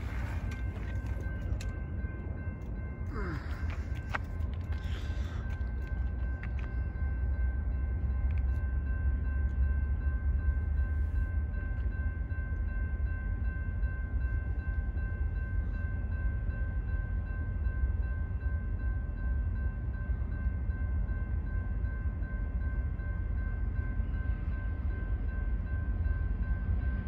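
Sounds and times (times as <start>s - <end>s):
diesel freight train rumbling: 0.0s - 27.0s.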